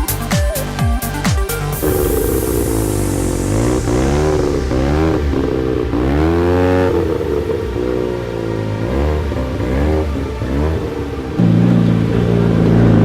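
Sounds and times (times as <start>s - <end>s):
car engine revving: 1.8s - 13.0s.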